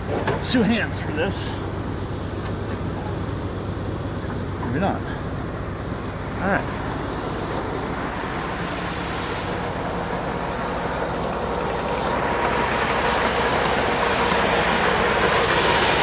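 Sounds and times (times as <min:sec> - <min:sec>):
combine harvester engine hum: 0:00.0 - 0:16.0.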